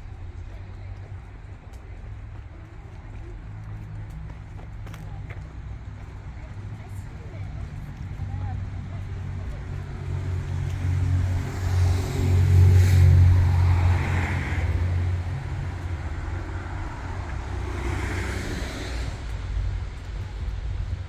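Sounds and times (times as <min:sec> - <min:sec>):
heavy engine rumbling: 0:00.0 - 0:21.0
vehicles passing: 0:00.0 - 0:21.0.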